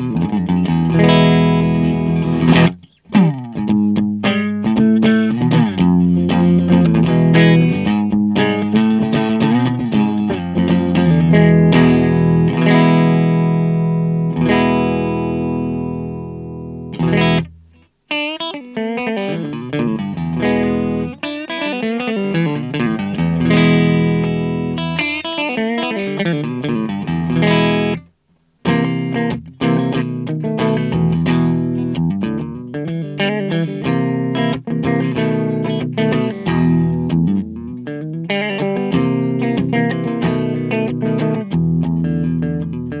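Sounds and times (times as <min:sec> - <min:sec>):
electric guitar chords ringing: 0:00.0 - 0:43.0
electric guitar picked notes: 0:00.0 - 0:43.0.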